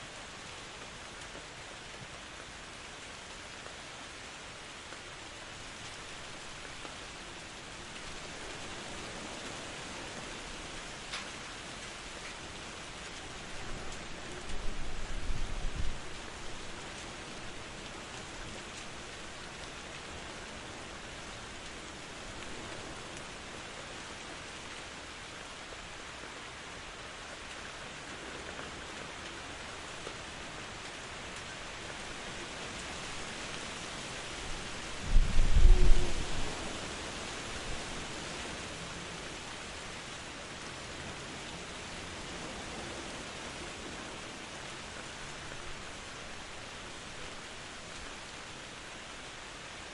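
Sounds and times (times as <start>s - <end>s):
steady rain hissing: 0.0s - 49.9s.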